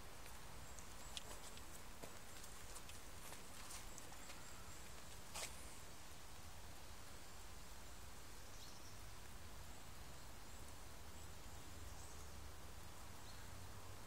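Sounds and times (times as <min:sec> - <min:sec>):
steady hiss and low rumble: 0:00.0 - 0:14.0.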